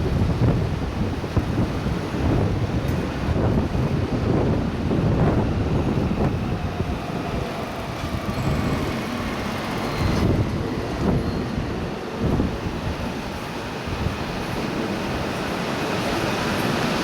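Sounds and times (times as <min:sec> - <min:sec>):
wind gusting over microphone: 0:00.0 - 0:17.0.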